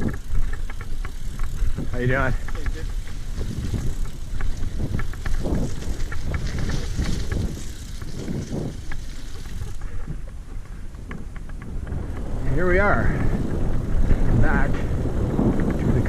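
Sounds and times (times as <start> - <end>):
bike clicks and rattles: 0.0 - 16.0
wind rumble on microphone: 0.0 - 16.0.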